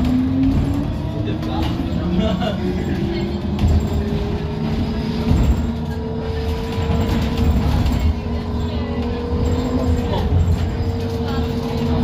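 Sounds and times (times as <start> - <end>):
road and body rumble: 0.0 - 12.0.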